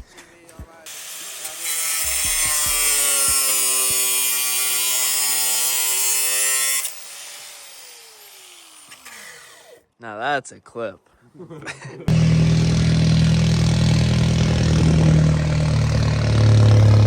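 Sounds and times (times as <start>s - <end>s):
power grinder on metal: 0.9s - 9.8s, 12.1s - 17.0s.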